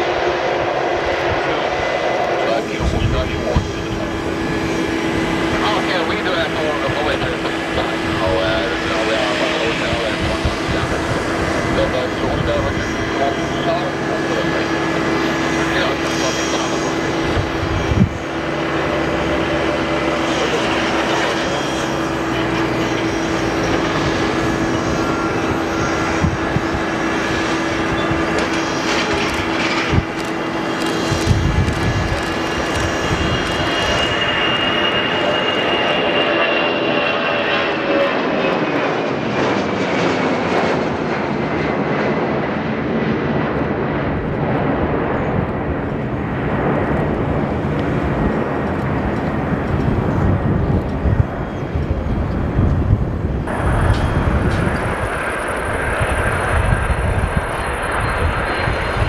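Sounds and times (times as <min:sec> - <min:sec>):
high jet whine: 0:00.0 - 0:59.0
jet engines roaring: 0:00.0 - 0:59.0.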